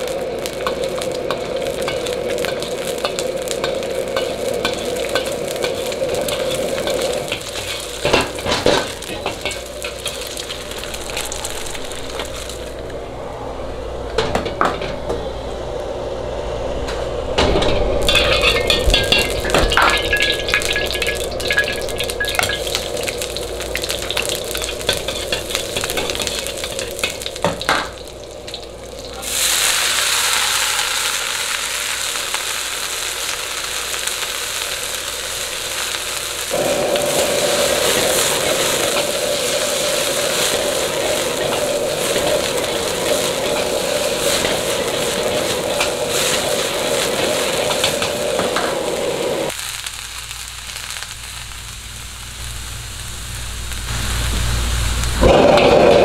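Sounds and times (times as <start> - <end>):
bean sprouts sizzling in oil: 0.0 - 12.9, 18.0 - 56.0
gas burner roar: 0.0 - 56.0.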